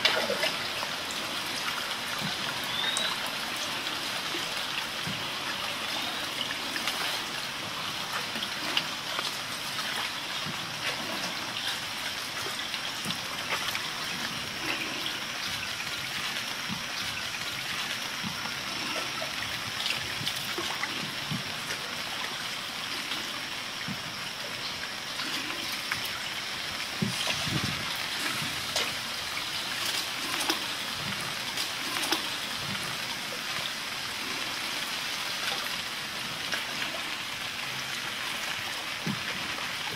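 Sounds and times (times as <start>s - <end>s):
water gurgles: 0.0s - 39.9s
water lapping against canoe: 0.0s - 39.9s.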